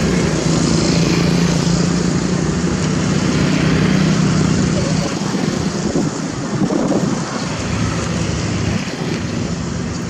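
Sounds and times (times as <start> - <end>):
broad rushing noise: 0.0 - 10.0
diesel machinery running: 0.0 - 10.0.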